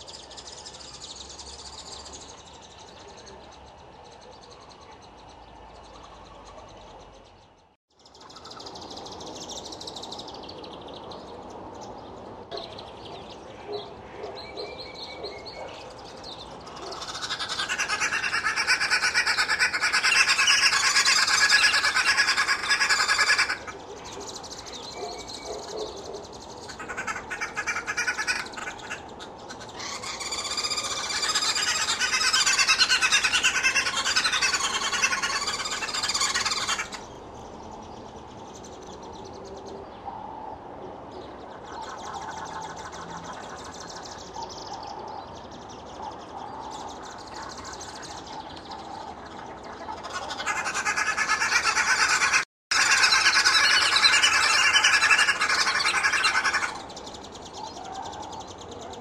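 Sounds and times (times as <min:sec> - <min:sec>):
birds chattering chorus: 0:00.0 - 0:59.0.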